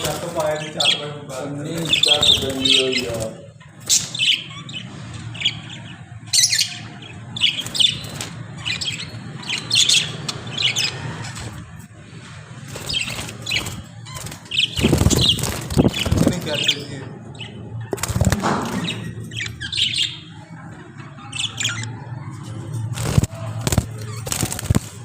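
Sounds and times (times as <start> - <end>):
parrots chirping and squawking: 0.0 - 25.0.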